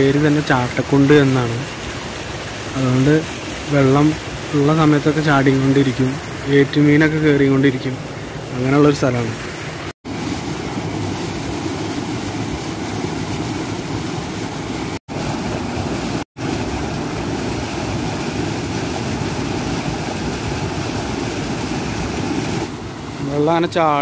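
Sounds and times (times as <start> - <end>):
water rushing over waterfall: 0.0 - 24.0.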